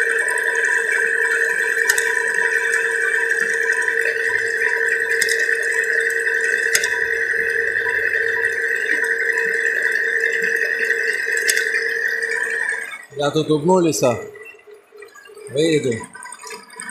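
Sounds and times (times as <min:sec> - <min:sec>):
milling machine running: 0:00.0 - 0:16.9.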